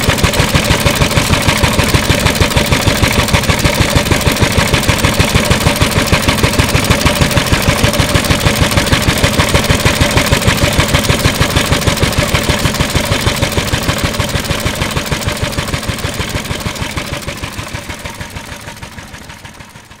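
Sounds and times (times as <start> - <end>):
oil engine idling: 0.0 - 20.0.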